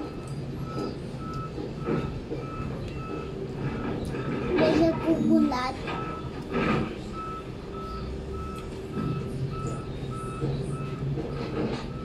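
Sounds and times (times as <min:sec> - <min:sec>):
low engine rumble: 0:00.0 - 0:12.0
reversing alarm beeping: 0:00.0 - 0:12.0.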